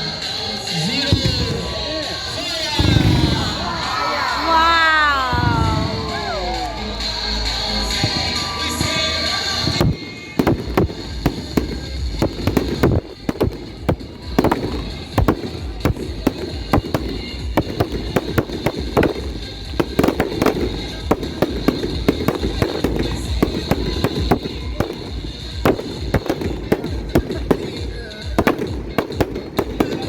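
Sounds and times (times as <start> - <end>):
fireworks bangs and crackles: 0.0 - 30.0
music: 0.0 - 30.0.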